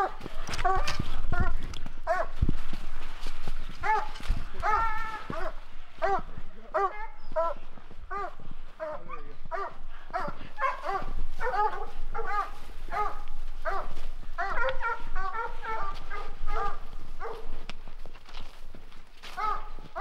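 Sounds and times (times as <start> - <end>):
hounds barking: 0.0 - 2.5, 3.2 - 18.5, 19.2 - 20.0.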